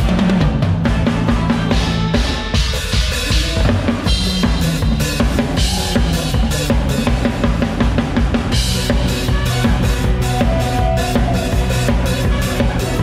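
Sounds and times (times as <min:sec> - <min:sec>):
drum kit groove: 0:00.0 - 0:13.0
live band playing: 0:00.0 - 0:13.0.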